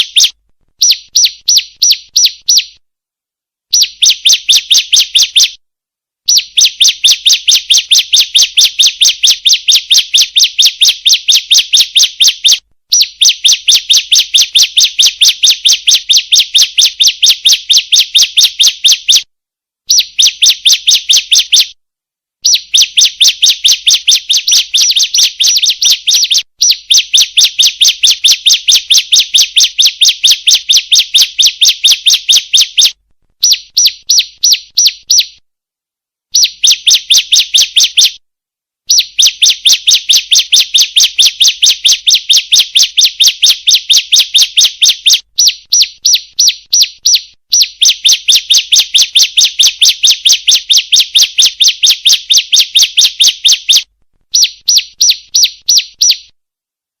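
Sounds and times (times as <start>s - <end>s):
bird sharp high chirps: 0.0s - 2.8s, 3.7s - 5.6s, 6.3s - 19.3s, 19.9s - 21.8s, 22.4s - 35.4s, 36.3s - 38.2s, 38.9s - 56.4s.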